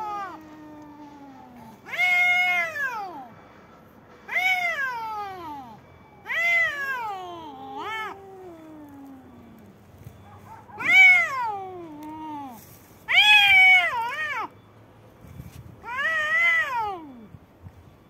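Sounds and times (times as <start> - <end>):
cats yowling: 0.0 - 3.3, 4.3 - 14.5, 15.8 - 17.3.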